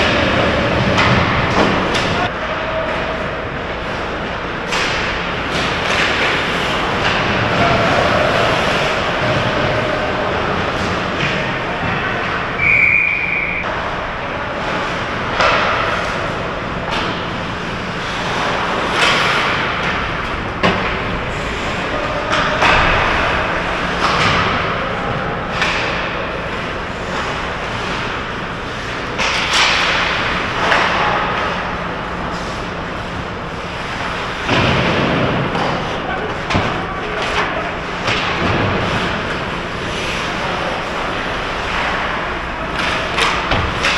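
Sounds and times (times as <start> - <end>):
hockey sticks and puck clacking: 0.0 - 43.9
low hum of rink: 0.0 - 43.9.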